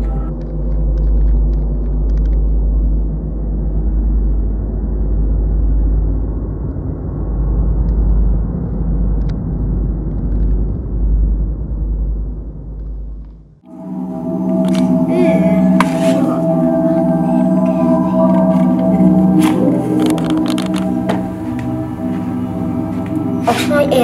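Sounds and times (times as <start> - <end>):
deep rumble: 0.0 - 24.0.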